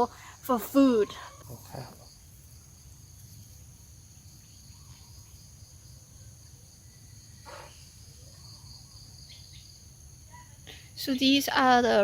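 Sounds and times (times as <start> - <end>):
field insects chorus: 0.0 - 12.0.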